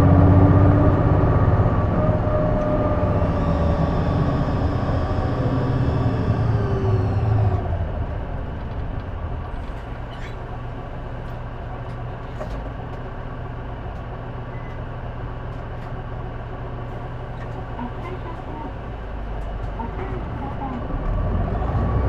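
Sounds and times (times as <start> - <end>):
bus diesel engine: 0.0 - 22.0.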